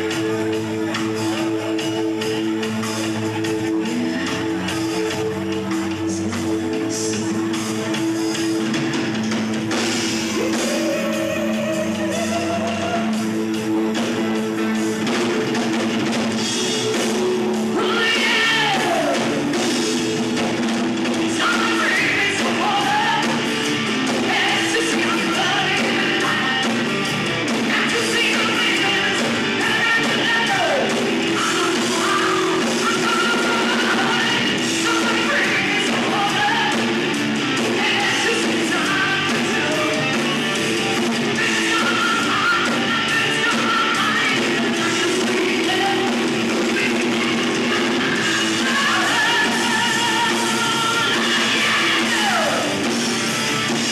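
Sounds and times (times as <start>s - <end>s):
bass guitar: 0.0s - 53.9s
distorted electric guitar: 0.0s - 53.9s
drums: 0.0s - 53.9s
person singing: 0.0s - 53.9s.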